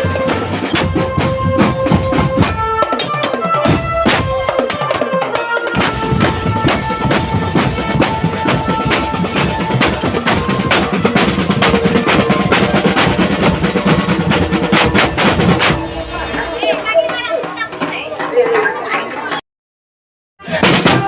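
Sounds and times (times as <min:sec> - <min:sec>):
snare and bass drums: 0:00.0 - 0:03.0, 0:03.6 - 0:05.0, 0:05.7 - 0:17.8, 0:20.4 - 0:21.0
held melody notes: 0:00.0 - 0:17.9.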